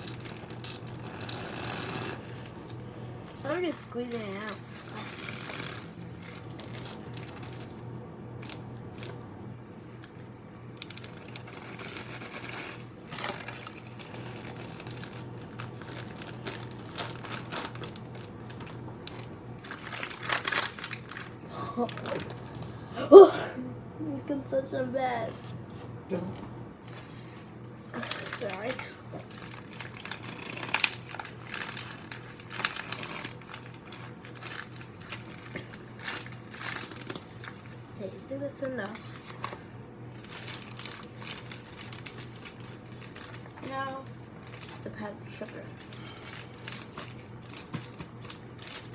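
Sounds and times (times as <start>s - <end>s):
plastic container crinkling: 0.0s - 2.8s, 3.4s - 7.8s, 10.0s - 22.4s, 27.8s - 37.9s, 38.6s - 48.9s
steady low hum: 0.0s - 48.9s.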